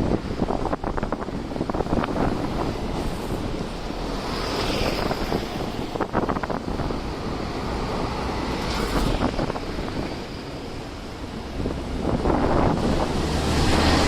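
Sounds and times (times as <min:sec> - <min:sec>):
street traffic: 0:00.0 - 0:14.0
wind buffeting microphone: 0:00.0 - 0:14.0.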